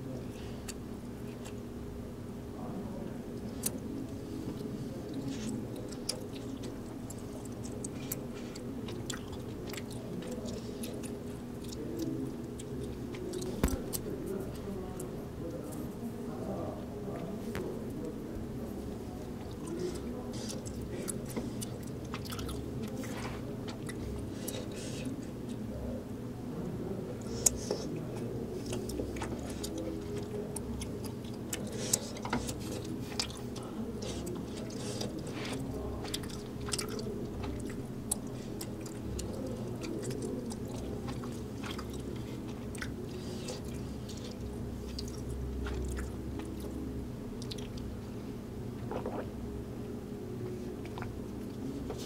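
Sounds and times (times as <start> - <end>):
close chewing of rice cakes: 0.0 - 2.0, 3.3 - 15.9, 17.9 - 25.7, 27.1 - 48.2, 48.8 - 49.5, 50.4 - 52.0
steady low hum: 0.0 - 52.0.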